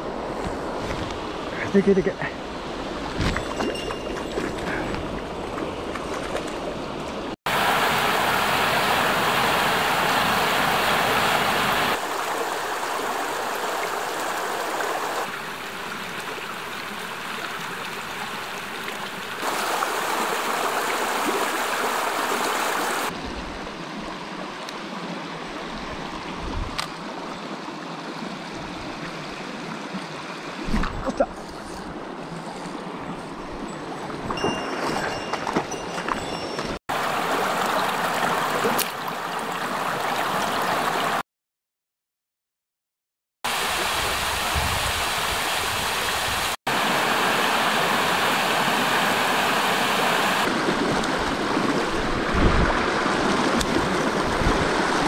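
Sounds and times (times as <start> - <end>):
stream water flowing over rocks: 2.5 - 30.7, 36.9 - 41.2, 43.5 - 55.0.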